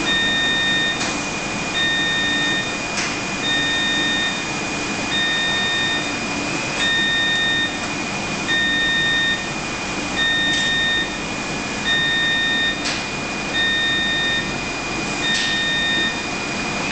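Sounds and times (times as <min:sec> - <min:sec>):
equipment alarm beeping: 0:00.0 - 0:16.4.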